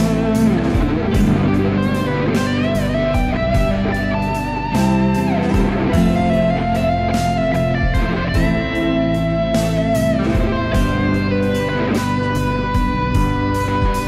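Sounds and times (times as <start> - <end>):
backing track with drums and bass: 0.0 - 14.0
electric guitar lead melody: 0.0 - 14.0.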